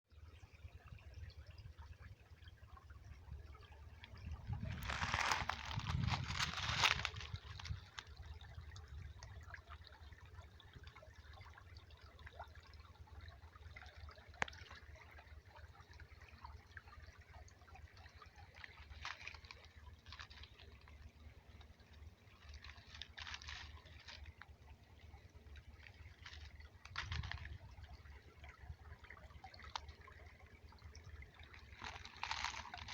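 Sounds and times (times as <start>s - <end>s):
creek water trickling over rocks: 0.0s - 32.9s
soft crackles: 2.4s - 12.8s, 13.8s - 32.9s.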